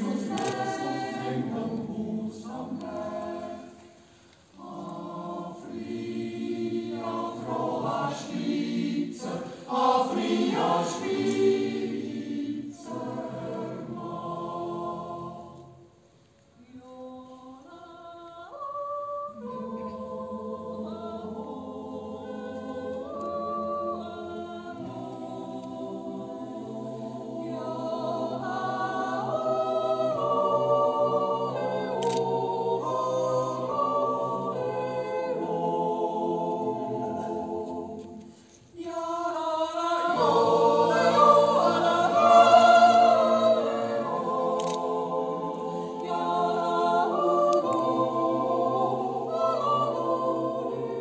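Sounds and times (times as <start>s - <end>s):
choir yodeling a cappella: 0.0s - 51.0s.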